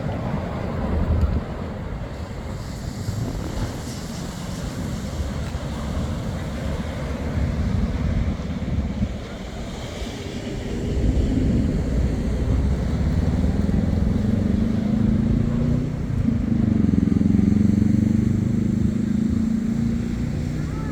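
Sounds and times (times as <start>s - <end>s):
surf rushing: 0.0s - 17.7s, 18.8s - 20.9s
engine hum: 0.0s - 20.9s
wind buffeting microphone: 0.0s - 20.9s.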